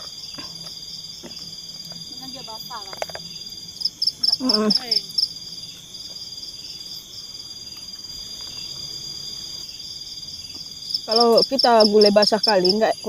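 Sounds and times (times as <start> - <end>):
crickets trilling: 0.0 - 13.0
pulsing insect chirps: 0.0 - 13.0.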